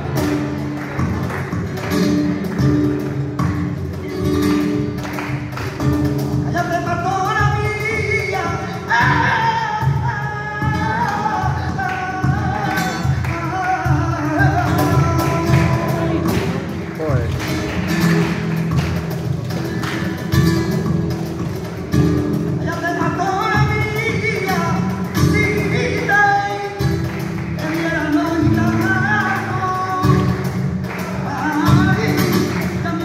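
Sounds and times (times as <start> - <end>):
flamenco guitar: 0.0 - 33.0.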